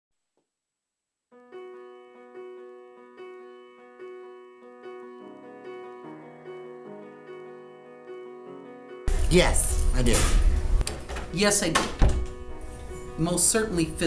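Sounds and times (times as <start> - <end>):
slow piano music: 1.3 - 14.0.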